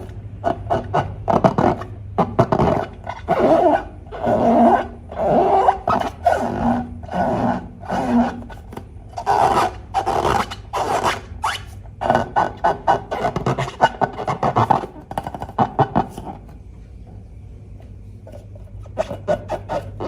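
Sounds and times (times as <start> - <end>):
slime rubbing and scraping: 0.0 - 16.6, 18.1 - 20.0.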